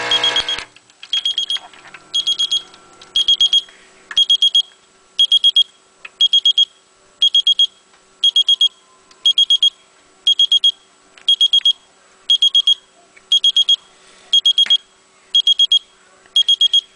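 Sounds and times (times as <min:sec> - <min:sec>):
high-pitched alarm beeps: 0:00.1 - 0:16.9.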